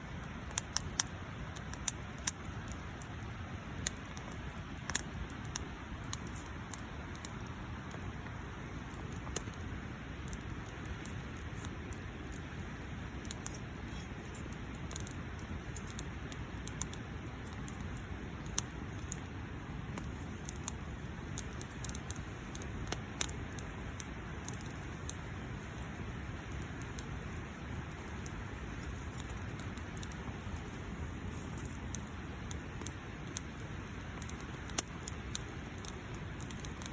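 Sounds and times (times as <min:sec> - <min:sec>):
campfire hissing and crackling: 0:00.0 - 0:36.9.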